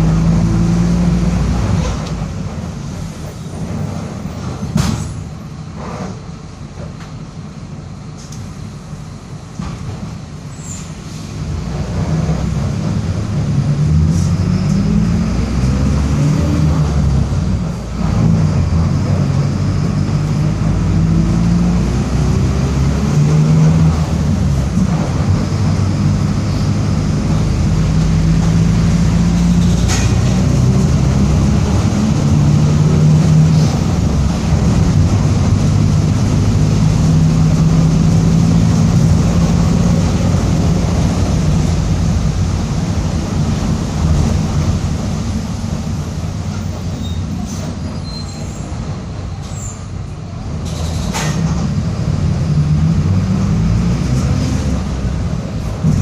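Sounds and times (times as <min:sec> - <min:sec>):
bus engine running: 0:00.0 - 0:56.0.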